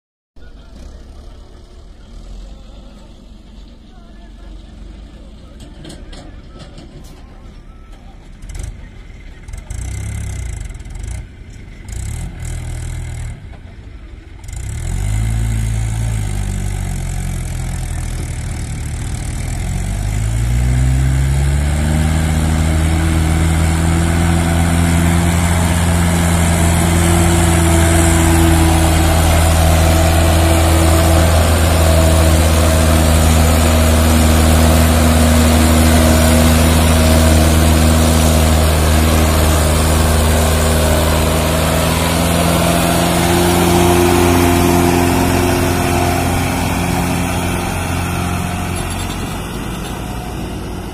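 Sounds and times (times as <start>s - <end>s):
tractor diesel engine: 0.4s - 50.9s.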